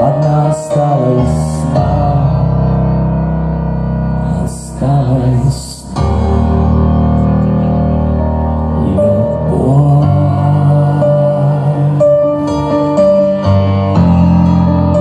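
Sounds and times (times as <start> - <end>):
deep bass: 0.0 - 15.0
keyboard chords: 0.0 - 15.0.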